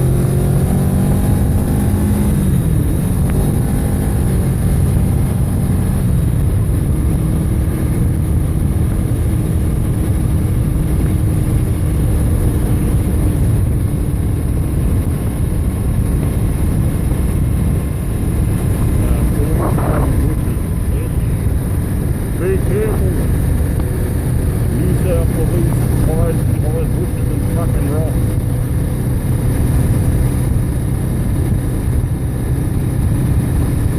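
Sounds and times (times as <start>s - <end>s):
wind and vehicle rumble: 0.0s - 33.9s.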